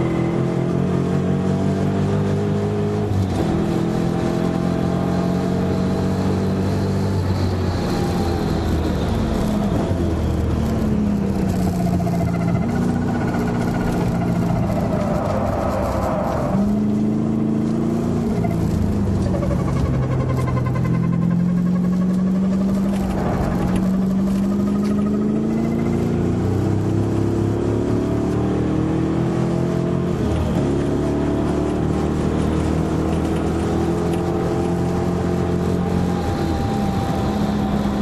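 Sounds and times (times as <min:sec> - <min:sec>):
car engine revving hard: 0:00.0 - 0:10.7, 0:11.4 - 0:38.0.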